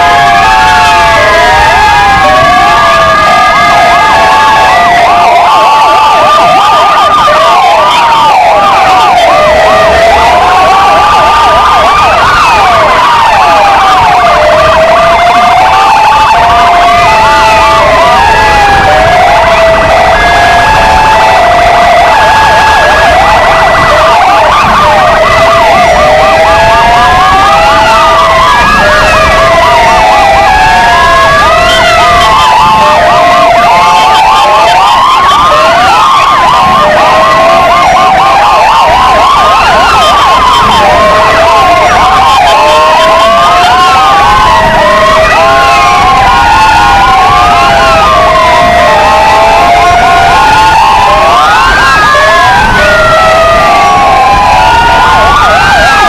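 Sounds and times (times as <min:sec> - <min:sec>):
electronic sirens wailing: 0:00.0 - 0:56.0.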